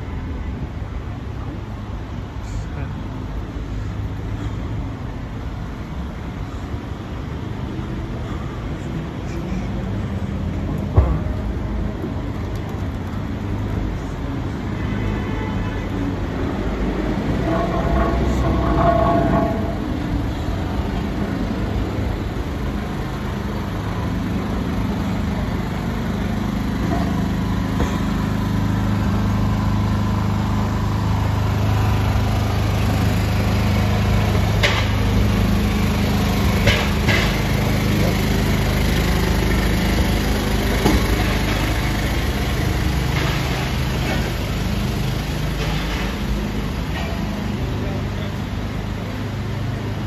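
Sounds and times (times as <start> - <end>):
engine humming: 0.0 - 50.0.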